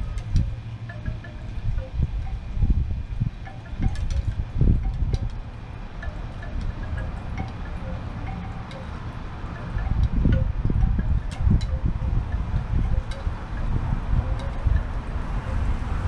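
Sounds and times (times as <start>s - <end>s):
wind buffeting microphone: 0.0s - 16.0s
wind chimes tinkling: 0.0s - 16.0s.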